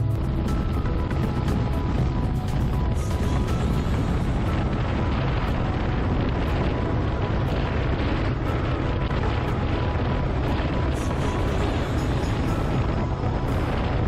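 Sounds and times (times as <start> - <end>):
background music with light tick: 0.0 - 14.0
wind buffeting microphone: 0.0 - 14.0.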